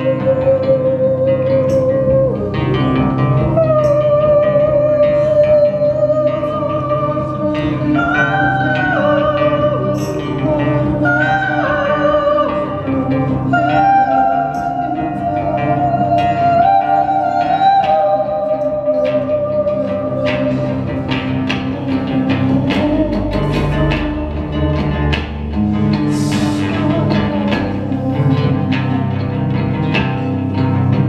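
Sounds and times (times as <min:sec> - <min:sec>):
live band instrumental music: 0:00.0 - 0:31.0.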